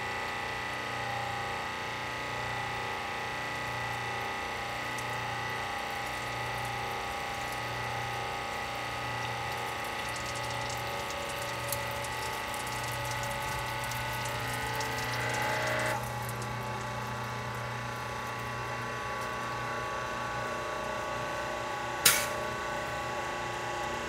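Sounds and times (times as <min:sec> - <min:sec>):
hydraulic pump hum and whine: 0:00.0 - 0:24.0.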